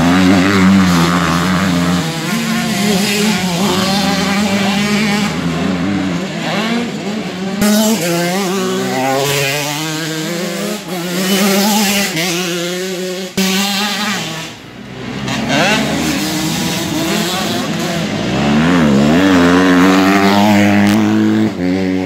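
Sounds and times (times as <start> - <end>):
motocross engines revving: 0.0 - 22.0.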